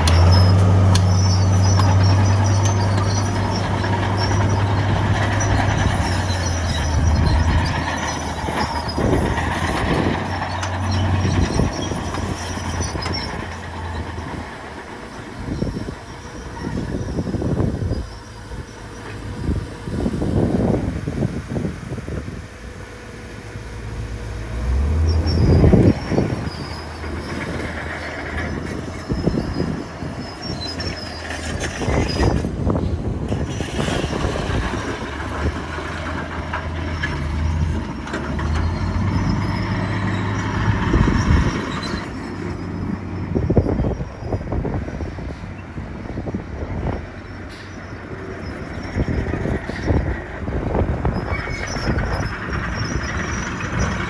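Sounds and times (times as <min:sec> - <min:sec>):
bulldozer diesel engine running: 0:00.0 - 0:54.0
steel tracks clanking and squealing: 0:00.0 - 0:54.0.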